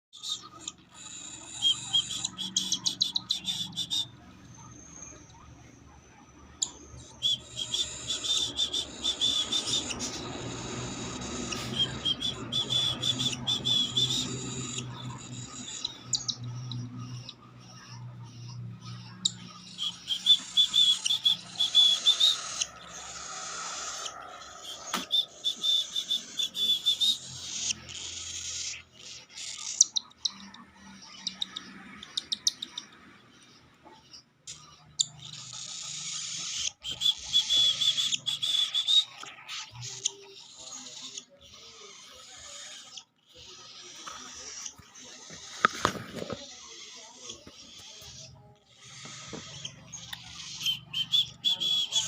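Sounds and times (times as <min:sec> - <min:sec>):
baby bird begging calls: 0:00.2 - 0:04.1, 0:06.6 - 0:32.9, 0:34.0 - 0:52.0.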